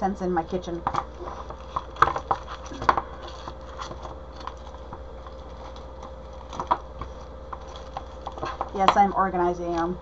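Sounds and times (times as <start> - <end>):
wax melts clicking and tapping: 0.6 - 10.0.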